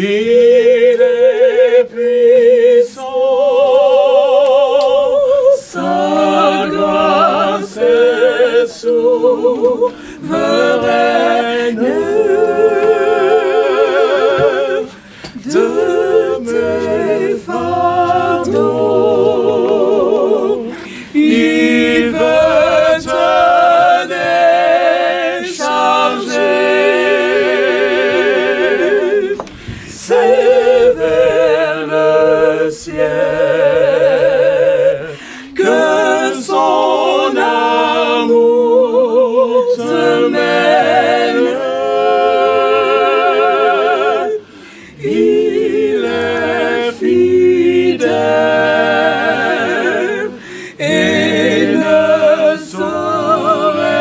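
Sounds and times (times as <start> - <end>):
group singing a hymn unaccompanied: 0.0 - 54.0.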